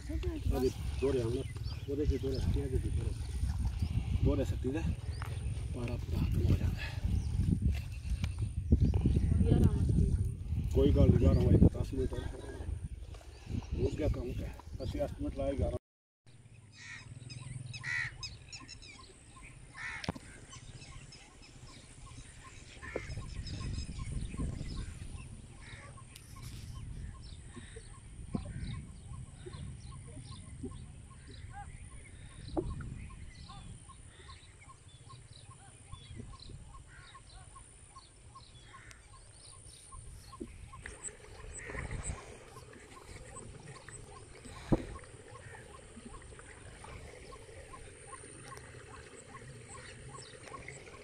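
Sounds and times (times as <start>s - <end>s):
wind buffeting microphone: 0.0s - 15.8s, 20.6s - 51.0s
birds chirping: 0.0s - 51.0s.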